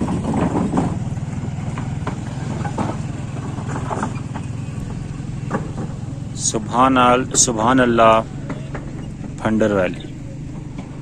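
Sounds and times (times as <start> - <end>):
knocks and rattles: 0.0 - 11.0
motorcycle engine at low revs: 0.0 - 11.0.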